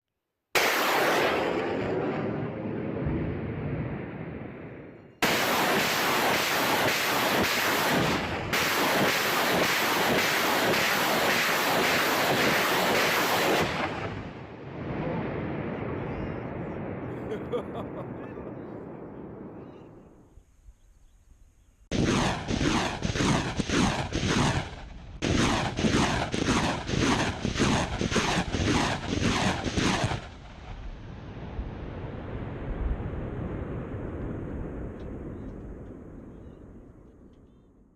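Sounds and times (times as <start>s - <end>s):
rocket launch rumble: 0.6s - 20.2s, 21.9s - 37.3s
rockets roaring: 0.6s - 20.2s, 21.9s - 37.3s.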